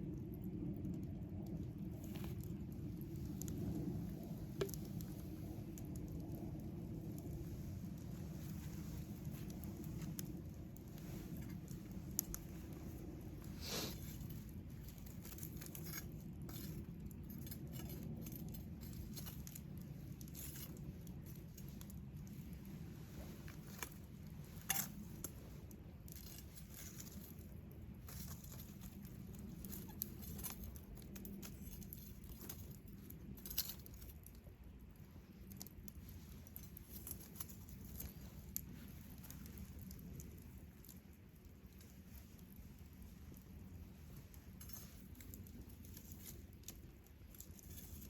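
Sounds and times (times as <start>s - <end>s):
campfire crackling and popping: 0.0s - 48.0s
low steady fire rumble: 0.0s - 48.0s.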